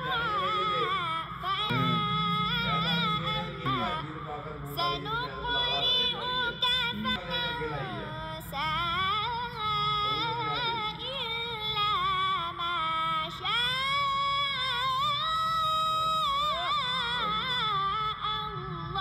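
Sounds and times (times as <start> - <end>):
boy reciting melodically: 0.0 - 19.0.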